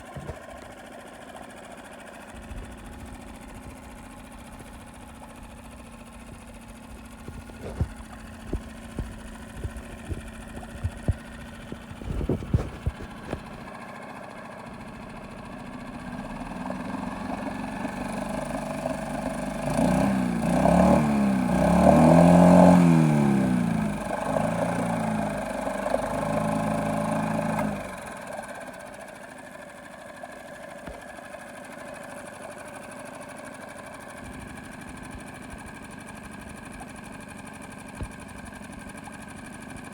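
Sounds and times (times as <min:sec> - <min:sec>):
outboard motor idling and revving: 0:00.0 - 0:39.9.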